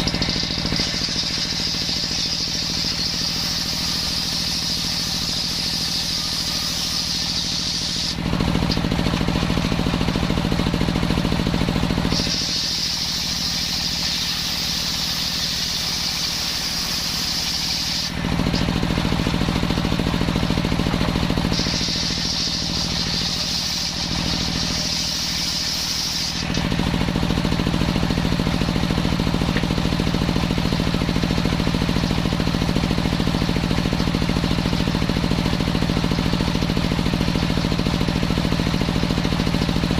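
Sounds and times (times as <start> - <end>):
saw engine drone: 0.0 - 32.5
saw blade whine: 0.0 - 39.9.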